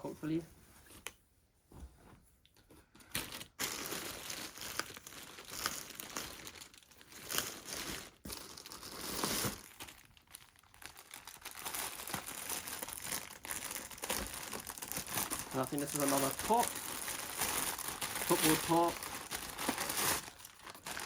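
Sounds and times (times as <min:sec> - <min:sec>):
packaging crinkling and rustling: 0:03.1 - 0:21.0.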